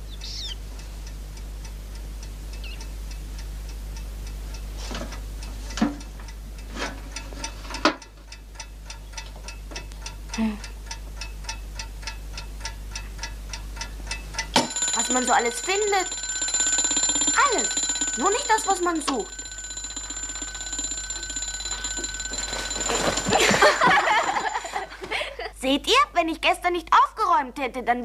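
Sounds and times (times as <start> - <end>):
mechanical clock ticking: 0.0 - 24.9.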